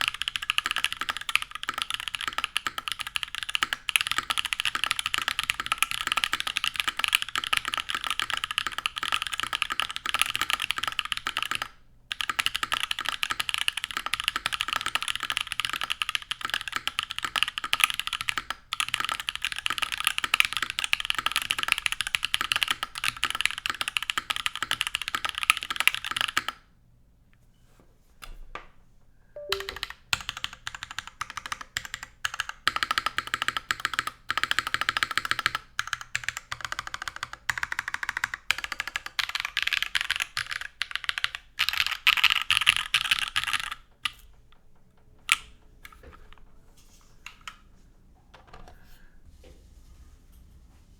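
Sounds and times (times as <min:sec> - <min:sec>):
fast typing on mechanical keyboard: 0:00.0 - 0:26.7, 0:29.4 - 0:46.4.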